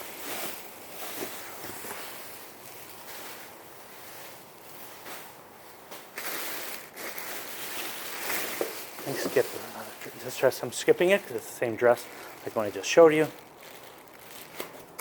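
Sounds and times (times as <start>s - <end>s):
plastic bags rustling: 0.0s - 15.0s.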